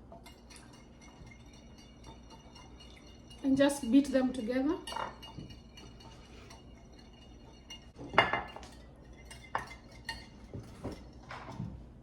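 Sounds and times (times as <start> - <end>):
utensil beating eggs in bowl: 0.0 - 11.2
utensil clinking against bowl: 0.1 - 11.7.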